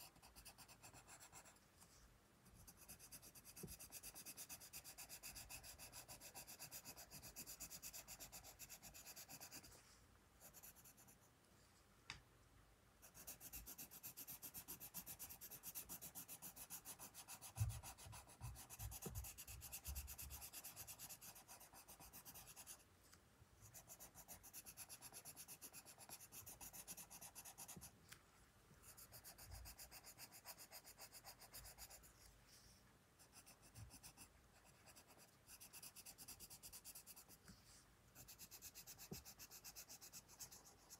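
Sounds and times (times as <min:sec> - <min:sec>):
pencil scratching on paper: 0:00.0 - 0:01.6, 0:02.5 - 0:11.3, 0:13.0 - 0:22.8, 0:23.6 - 0:27.9, 0:28.8 - 0:32.6, 0:33.2 - 0:40.9.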